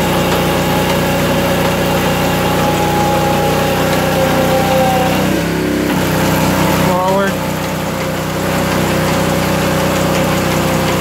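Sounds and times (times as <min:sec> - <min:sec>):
hydraulic net lifter humming: 0:00.0 - 0:11.0.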